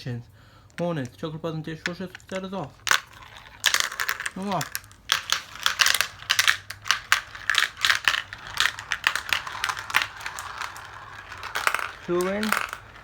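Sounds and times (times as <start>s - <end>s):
marbles clacking down a track: 0.7s - 13.0s.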